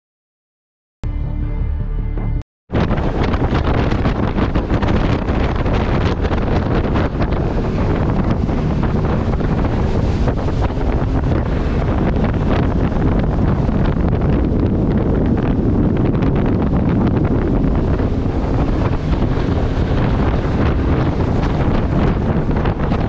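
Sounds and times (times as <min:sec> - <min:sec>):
water rushing along hull: 0:02.7 - 0:23.0
wind buffeting microphone: 0:02.7 - 0:23.0
outboard motors droning: 0:02.8 - 0:23.0.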